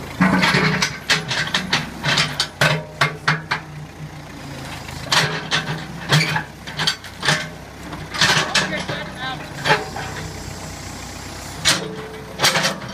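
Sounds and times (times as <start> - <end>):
backhoe engine running: 0.0 - 12.9.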